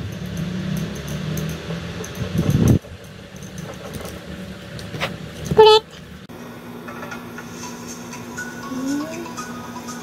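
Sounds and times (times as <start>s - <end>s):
wavering mechanical hum: 0.0s - 10.0s.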